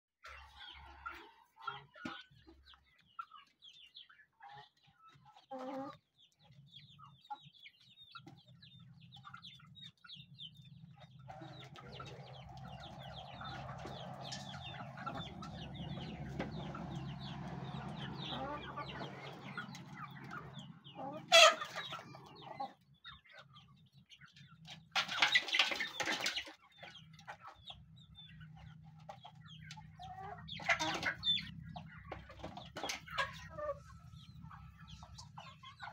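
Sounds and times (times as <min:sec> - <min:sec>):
chickens clucking: 0:00.2 - 0:35.9.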